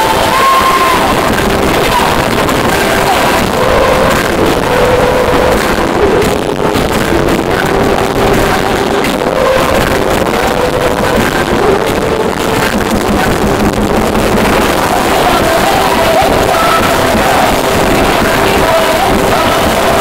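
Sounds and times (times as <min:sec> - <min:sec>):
crowd roar: 0:00.0 - 0:20.0
distorted concert sound system: 0:00.0 - 0:20.0
held sung notes: 0:00.0 - 0:20.0.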